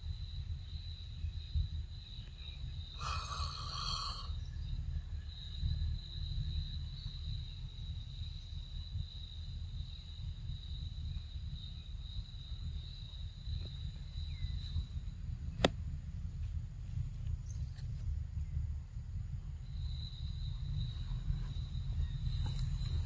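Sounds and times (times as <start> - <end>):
high insect calls: 0.0 - 23.0
low rumble on microphone: 0.0 - 23.0.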